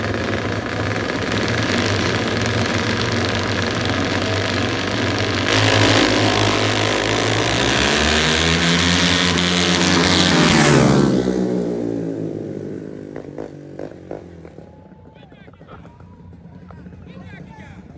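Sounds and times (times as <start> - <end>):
race cars launching and accelerating: 0.0 - 14.6
race car engines rumbling: 0.0 - 17.9.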